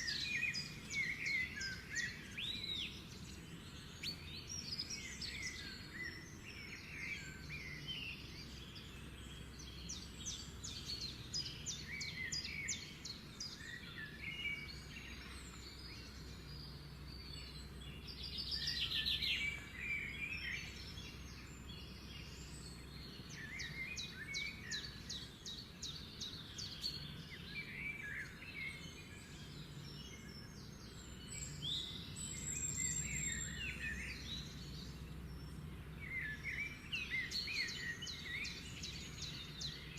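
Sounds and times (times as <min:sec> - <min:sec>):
birds chirping with trills: 0:00.0 - 0:39.9.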